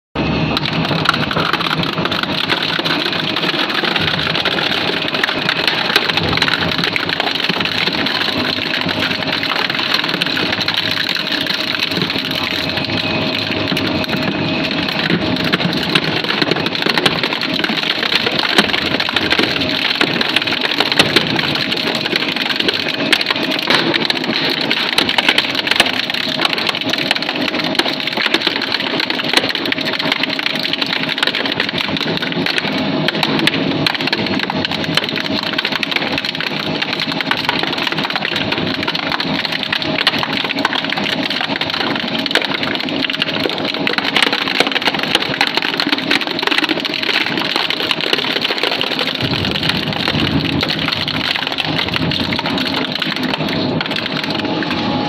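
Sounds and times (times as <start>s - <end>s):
faint machine hum: 0.2s - 55.0s
shredder crushing plastic: 0.5s - 55.0s.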